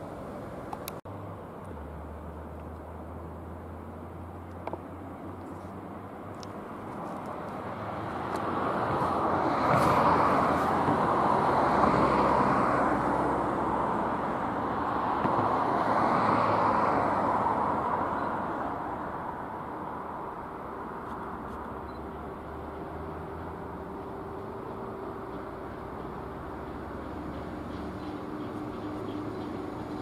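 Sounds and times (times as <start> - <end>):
passing vehicle: 0.0 - 30.0.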